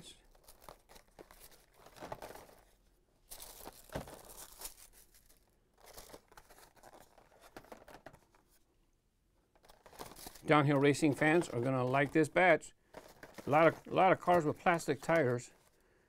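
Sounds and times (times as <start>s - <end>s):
plastic and cardboard rustling: 0.3s - 8.7s, 9.4s - 15.8s.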